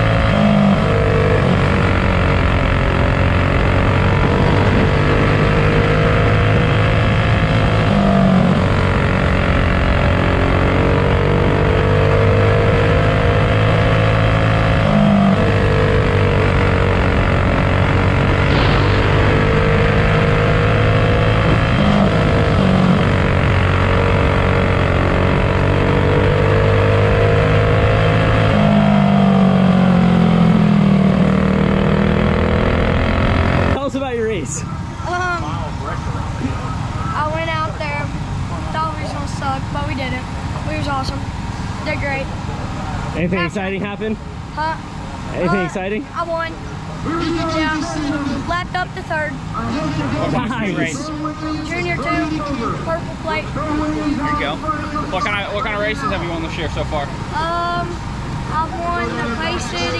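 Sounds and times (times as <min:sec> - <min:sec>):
kart engine at high revs: 0:00.0 - 0:59.9.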